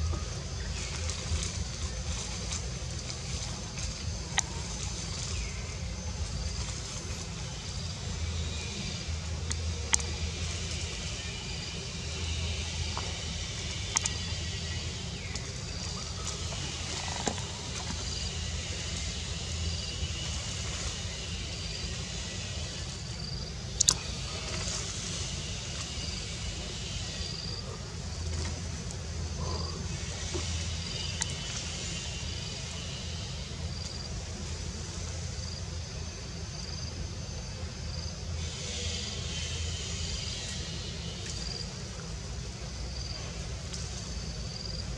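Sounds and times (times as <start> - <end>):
insects buzzing and chirping: 0.0 - 44.9
steady low rumble: 0.0 - 44.9.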